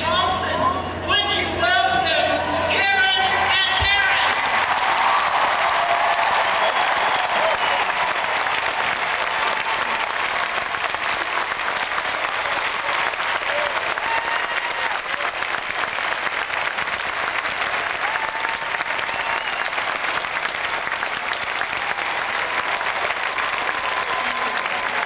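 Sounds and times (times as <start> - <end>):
large crowd applauding: 2.8 - 25.0.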